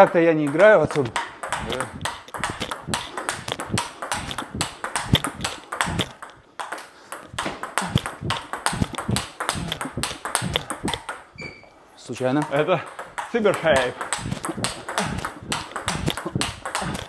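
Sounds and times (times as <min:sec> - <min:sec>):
table tennis ball clicking: 0:00.0 - 0:11.3, 0:12.4 - 0:17.0.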